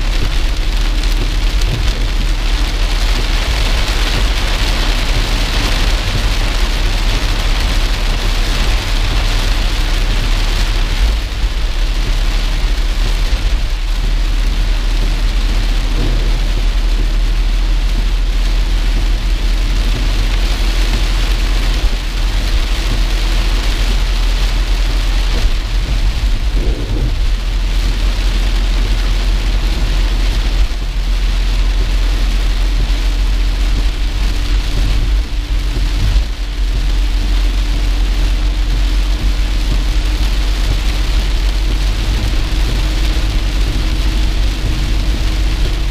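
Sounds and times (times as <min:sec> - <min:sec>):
heavy rain on car roof: 0:00.0 - 0:45.9
low rumble of car: 0:00.0 - 0:45.9.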